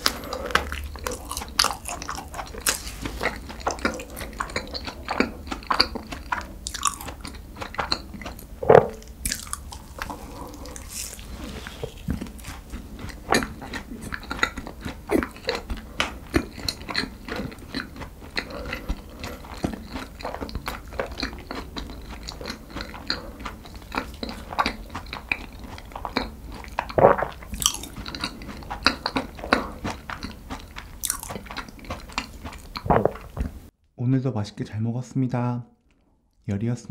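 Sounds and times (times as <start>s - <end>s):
chewing with wet clicks: 0.0s - 33.6s.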